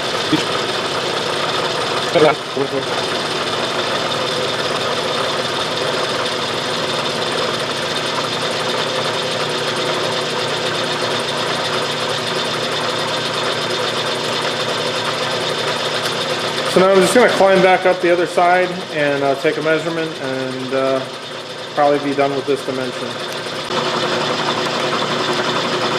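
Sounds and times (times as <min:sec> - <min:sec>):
milling machine cutting metal: 0:00.0 - 0:25.9.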